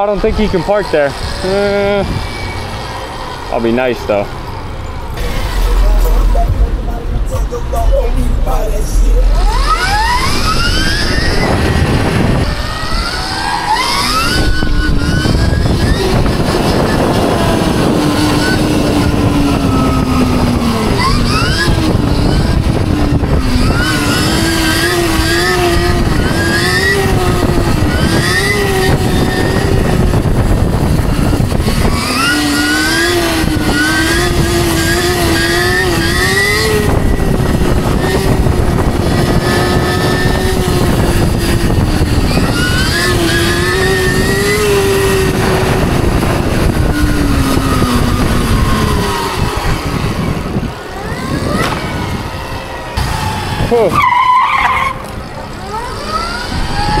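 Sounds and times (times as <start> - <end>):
electric motorbike motor whining: 0.0 - 6.4, 9.2 - 57.0
wind and road noise: 0.0 - 57.0.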